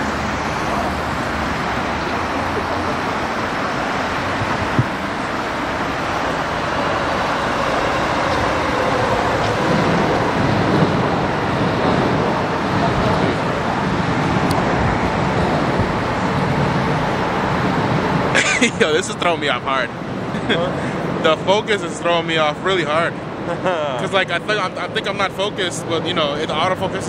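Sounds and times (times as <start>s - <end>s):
passing cars: 0.0s - 27.0s.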